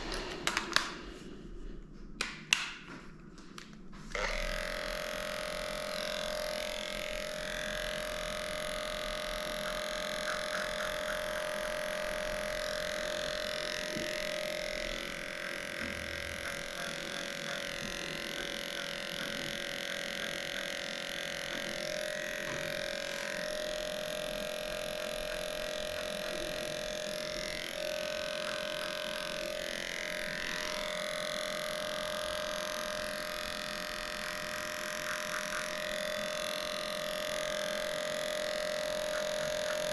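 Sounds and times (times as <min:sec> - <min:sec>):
electric clippers humming: 0:04.0 - 0:39.9.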